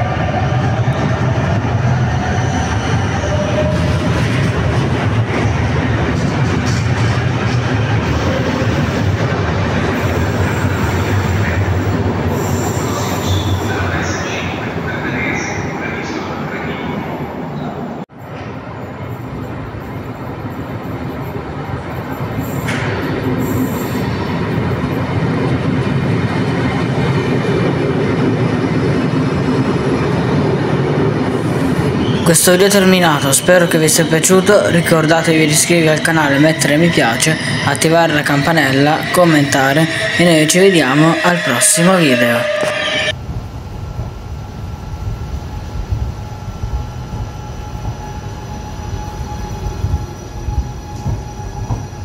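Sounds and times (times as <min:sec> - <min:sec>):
train wheels rumbling: 0:00.0 - 0:17.1, 0:18.2 - 0:52.0.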